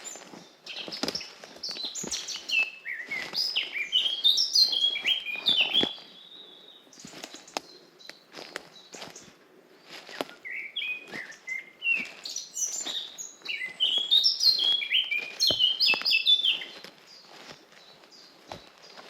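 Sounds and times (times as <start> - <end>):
songbird whistling song: 0.0 - 9.3, 10.0 - 19.0
footsteps crunching on forest path: 0.0 - 19.0.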